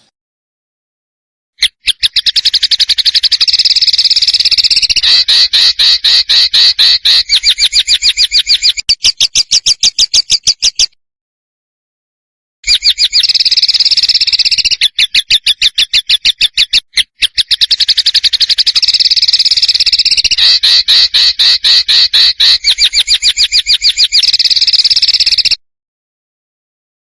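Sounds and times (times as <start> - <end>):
songbird rapid trill: 1.6 - 10.9, 12.7 - 25.6.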